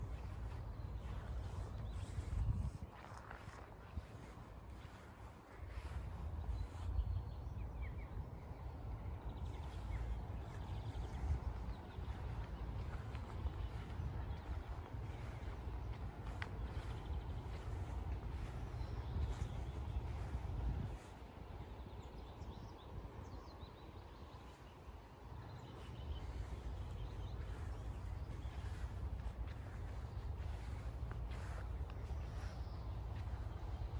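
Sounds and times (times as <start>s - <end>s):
steady low rumble: 0.0s - 23.3s, 24.4s - 33.9s
faint bird chirps and trills: 0.0s - 33.9s.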